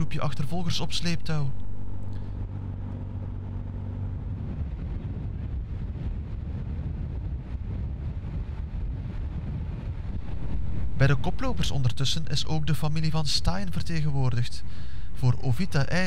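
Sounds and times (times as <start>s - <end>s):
rushing wind: 0.0s - 16.0s
vehicle engine running: 0.0s - 16.0s.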